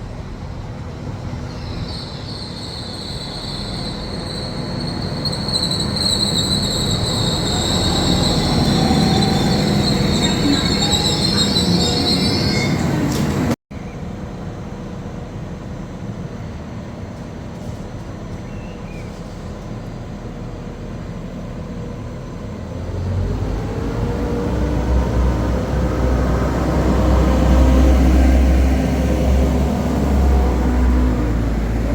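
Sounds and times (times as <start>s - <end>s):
diesel train engine rumbling: 0.0s - 31.9s.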